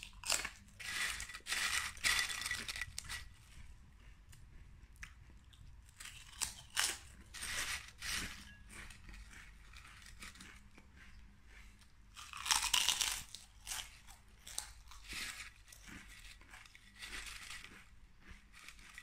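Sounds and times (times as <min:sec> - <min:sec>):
crunching potato chips: 0:00.0 - 0:03.6, 0:05.0 - 0:10.8, 0:12.1 - 0:19.0.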